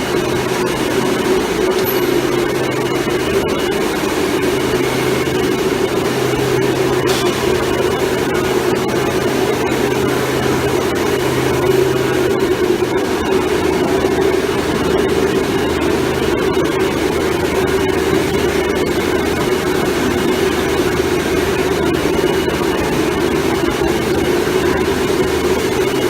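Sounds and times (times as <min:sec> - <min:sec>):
broad rushing noise: 0:00.0 - 0:26.0
machine motor humming: 0:00.0 - 0:26.0.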